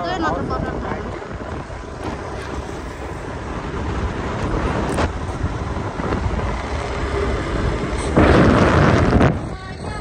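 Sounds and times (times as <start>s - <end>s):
motorbike engine and road rumble: 0.0s - 10.0s
wind rushing over microphone: 0.0s - 10.0s.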